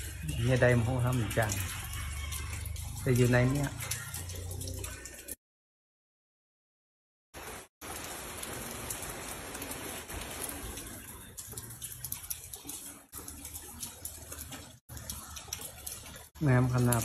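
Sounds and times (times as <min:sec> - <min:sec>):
raindrops ticking: 0:00.0 - 0:05.4, 0:07.4 - 0:17.0
steady rain: 0:00.0 - 0:05.4, 0:07.4 - 0:17.0.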